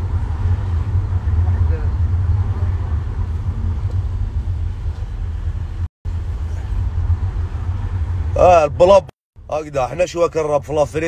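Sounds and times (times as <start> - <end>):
car cabin rumble: 0.0 - 9.0.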